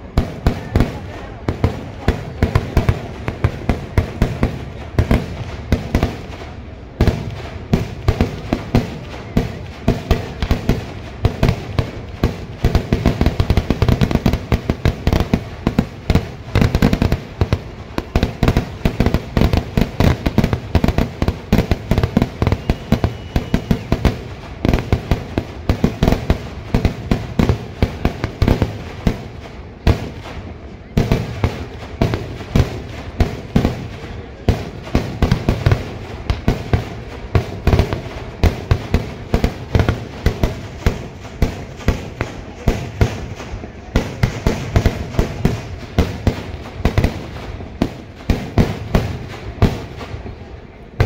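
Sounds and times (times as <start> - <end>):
firecrackers banging rapidly: 0.0 - 51.0.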